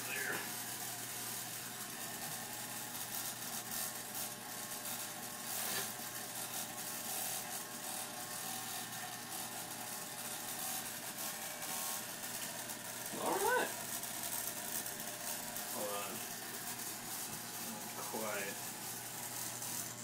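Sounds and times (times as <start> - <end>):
electric hair clippers buzzing: 0.0 - 20.0
clipper blades crackling through hair: 1.4 - 20.0.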